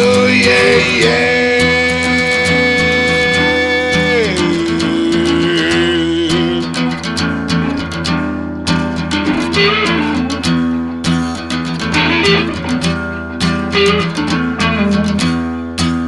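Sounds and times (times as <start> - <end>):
band instrumental with lead guitar: 0.0 - 16.0.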